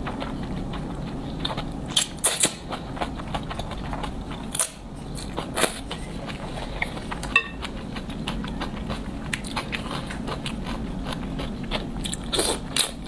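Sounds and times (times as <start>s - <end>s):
chewing noodles: 0.0s - 13.0s.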